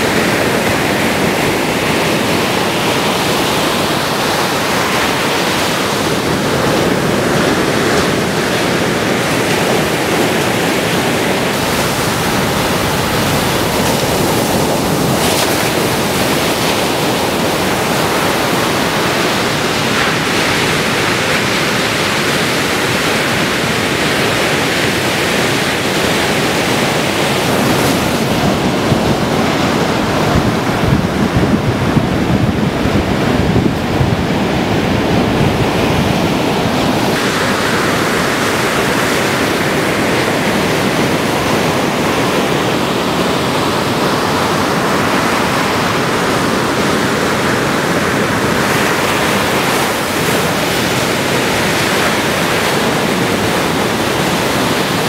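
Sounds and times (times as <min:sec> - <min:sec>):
ocean surf breaking: 0:00.0 - 0:55.0
wind on microphone: 0:00.0 - 0:55.0.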